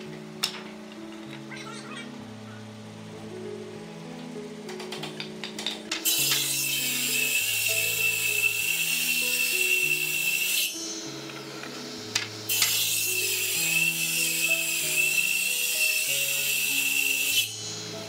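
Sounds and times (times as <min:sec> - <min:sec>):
table saw cutting wood: 0:00.0 - 0:18.0.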